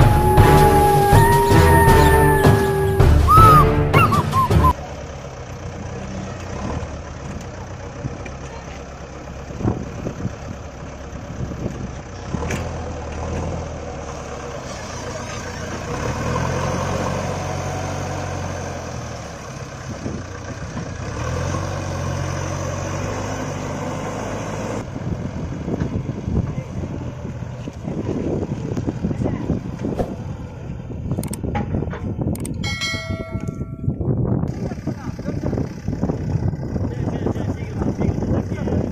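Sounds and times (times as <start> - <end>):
diesel engine revving: 0.0 - 31.5, 34.5 - 38.9.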